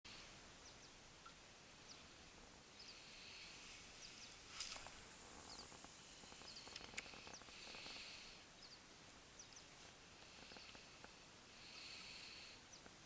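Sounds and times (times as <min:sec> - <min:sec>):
quiet shore ambience: 0:00.1 - 0:13.0
small birds chirping: 0:00.1 - 0:13.0.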